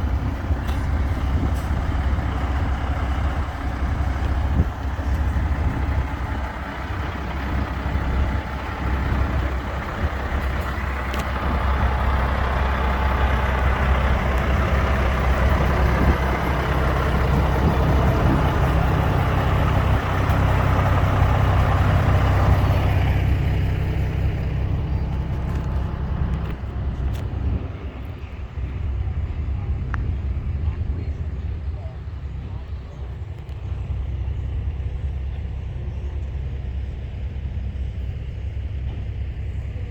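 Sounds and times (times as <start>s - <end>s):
road noise hiss: 0.0s - 39.9s
truck engine droning: 0.0s - 39.9s.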